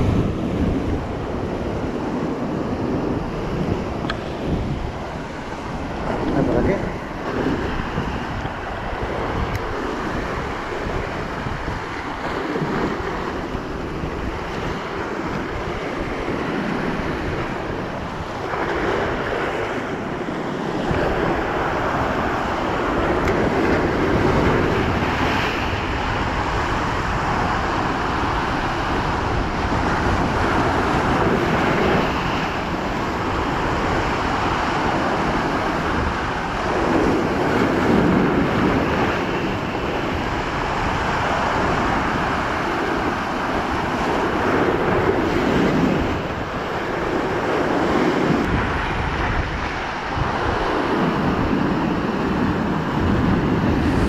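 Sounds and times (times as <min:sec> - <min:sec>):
surf breaking over rocks: 0:00.0 - 0:54.0
wind buffeting microphone: 0:00.0 - 0:54.0.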